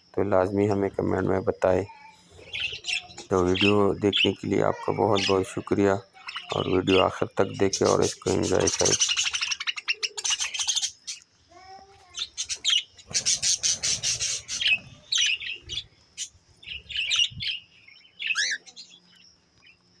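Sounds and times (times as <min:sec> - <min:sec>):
birds chirping and chattering: 0:00.0 - 0:20.0.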